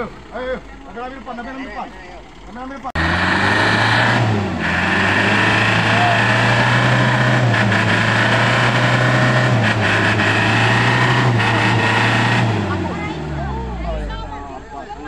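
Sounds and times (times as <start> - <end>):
truck diesel engine revving: 0.0 - 15.0.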